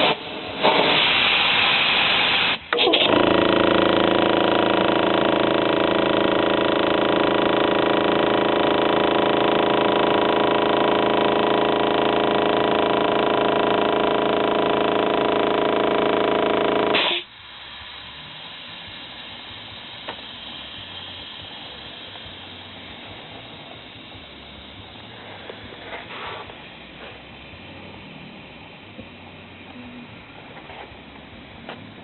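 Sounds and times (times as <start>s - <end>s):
air compressor running: 0.0s - 32.0s
air hissing: 0.0s - 32.0s.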